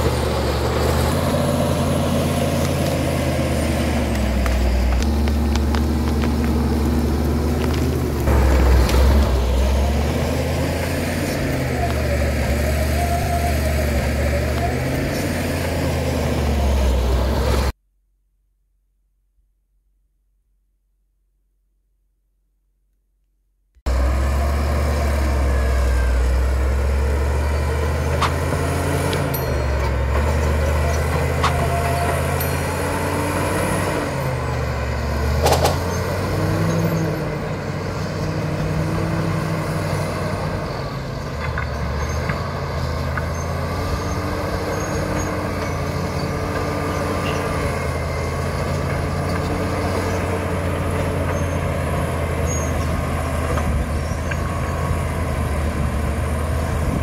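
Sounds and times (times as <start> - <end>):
bulldozer diesel engine running: 0.0 - 17.8, 23.9 - 57.0.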